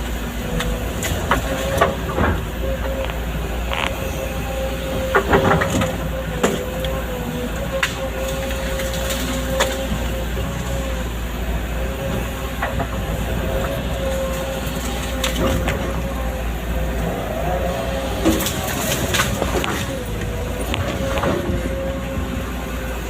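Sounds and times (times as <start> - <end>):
excavator engine humming: 0.0 - 23.0.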